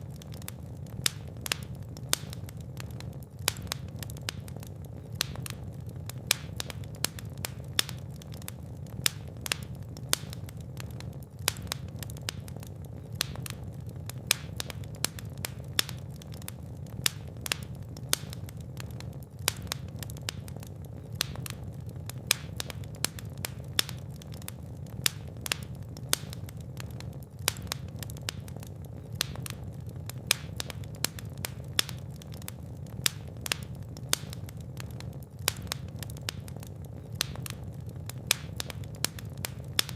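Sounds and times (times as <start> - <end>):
fire crackling: 0.0 - 39.9
low rush of flame: 0.0 - 39.9.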